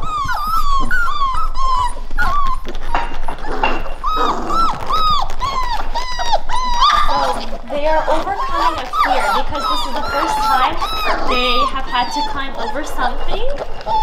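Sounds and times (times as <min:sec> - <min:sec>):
puppies whimpering and whining: 0:00.0 - 0:14.0.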